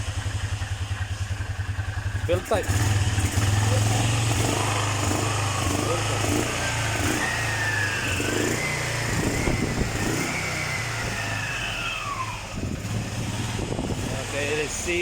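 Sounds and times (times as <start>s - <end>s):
quad bike engine humming: 0.0s - 15.0s.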